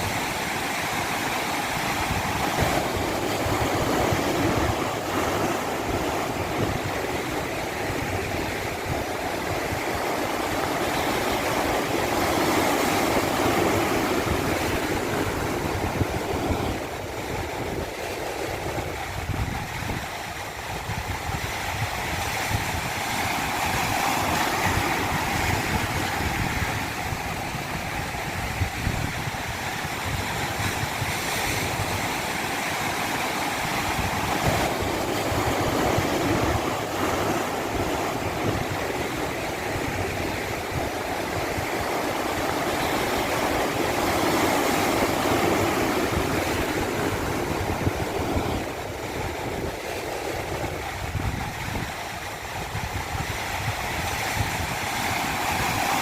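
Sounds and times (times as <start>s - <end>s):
stream rushing over cascade: 0.0s - 56.0s.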